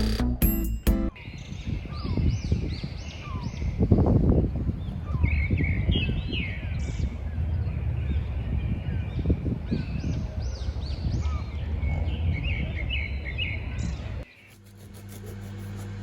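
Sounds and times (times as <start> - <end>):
birds chirping and calling: 1.2 - 14.7.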